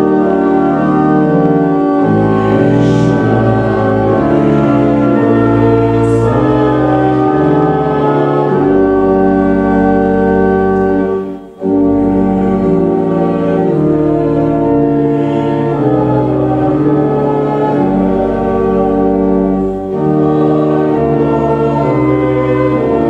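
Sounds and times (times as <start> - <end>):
church organ playing chords: 0.0 - 23.0.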